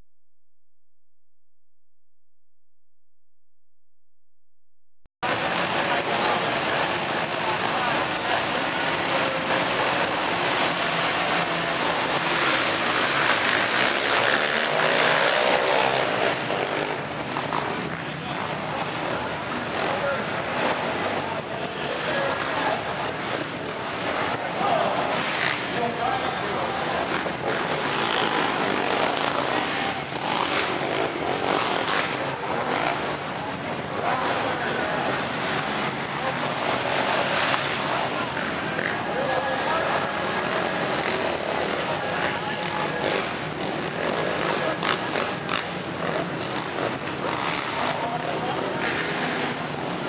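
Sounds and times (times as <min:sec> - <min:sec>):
racing engines running hard: 0:05.2 - 0:50.0
engines revving in rising whines: 0:05.3 - 0:50.0.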